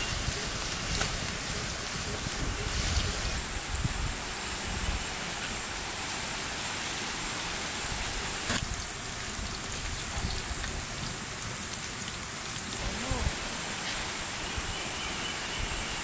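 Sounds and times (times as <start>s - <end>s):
frying in hot oil sizzle: 0.0s - 16.0s.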